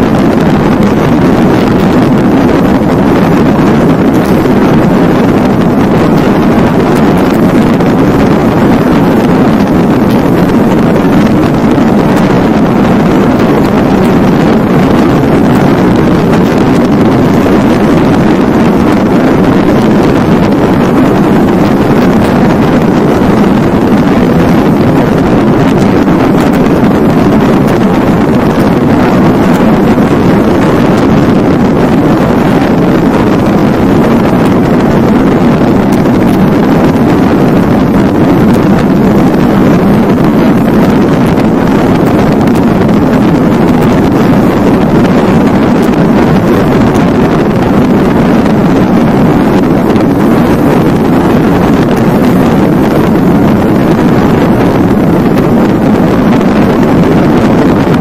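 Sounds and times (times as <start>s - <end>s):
road noise: 0.0s - 58.0s
wind rush on microphone: 0.0s - 58.0s.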